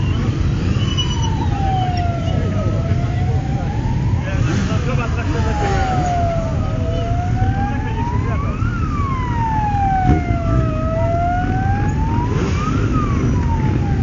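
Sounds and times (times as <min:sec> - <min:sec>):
motorcycle engines idling: 0:00.0 - 0:14.0
siren wailing: 0:00.0 - 0:14.0.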